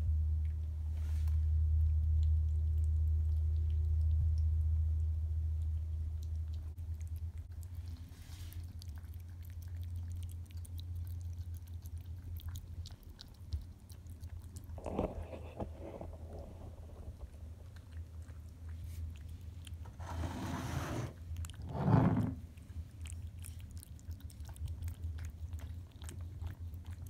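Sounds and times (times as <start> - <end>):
cat chewing and licking food: 0.0 - 27.0
low steady hum: 0.0 - 27.0.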